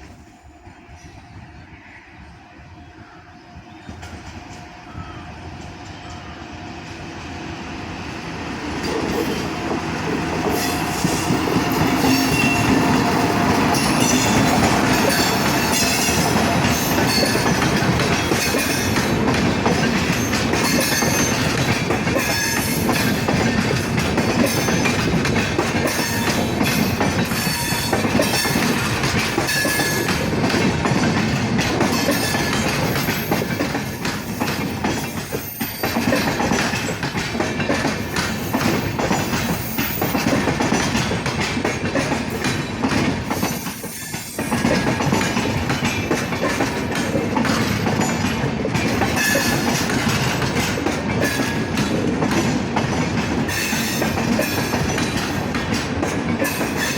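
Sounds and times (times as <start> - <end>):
train wheels clickety-clack: 3.7 - 7.3, 8.1 - 56.9.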